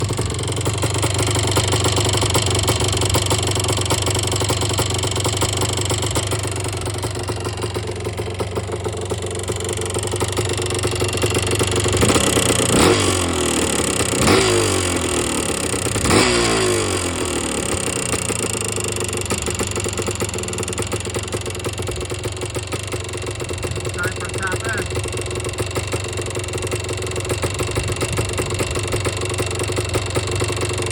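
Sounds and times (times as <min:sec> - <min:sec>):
two-stroke engine revving: 0:00.0 - 0:30.9.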